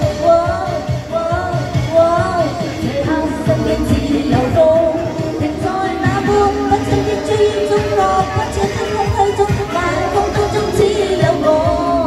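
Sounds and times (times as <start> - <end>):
backing track with steady beat: 0.0 - 12.0
woman singing pop song: 0.0 - 12.0.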